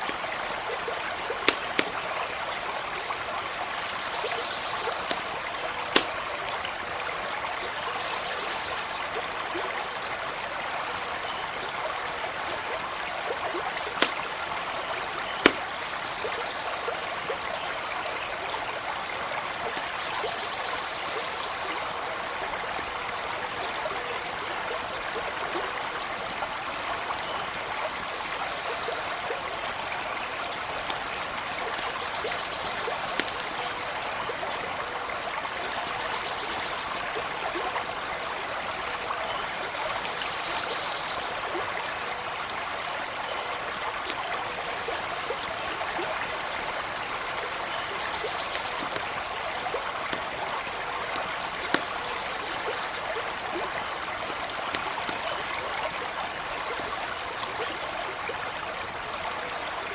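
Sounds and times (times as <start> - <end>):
campfire crackling: 0.0 - 59.9
small stream running: 0.0 - 59.9.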